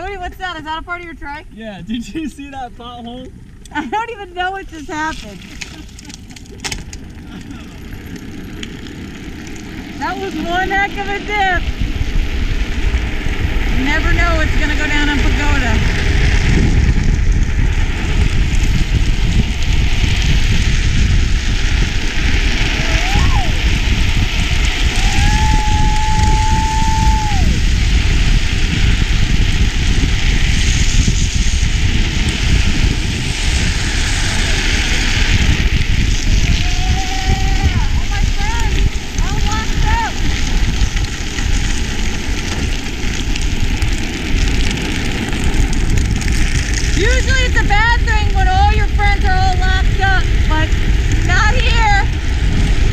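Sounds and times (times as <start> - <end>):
plastic wheels sliding on asphalt: 0.0 - 52.9
wind buffeting microphone: 0.0 - 52.9.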